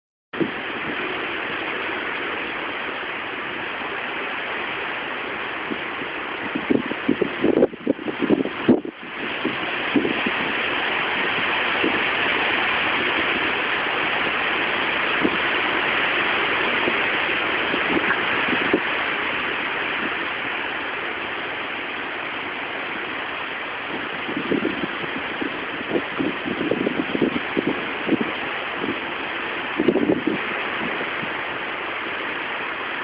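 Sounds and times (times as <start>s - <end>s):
strong wind into microphone: 0.4s - 2.8s, 5.6s - 21.3s, 22.6s - 33.0s
wind gusts buffeting microphone: 0.4s - 33.0s.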